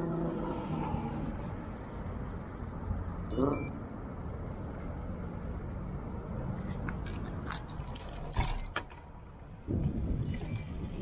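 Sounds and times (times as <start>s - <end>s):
road and wind rumble: 0.0s - 11.0s.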